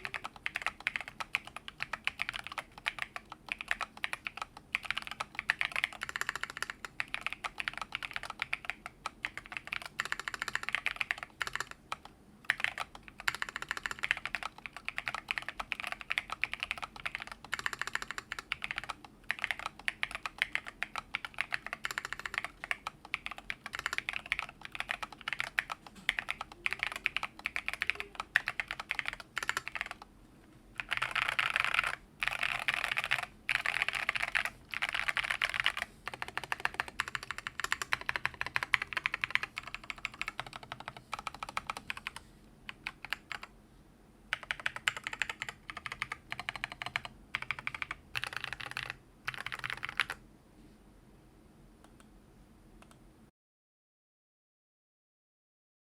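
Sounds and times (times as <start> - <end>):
mechanical keyboard typing: 0.0 - 30.1, 30.8 - 43.5, 44.3 - 50.2.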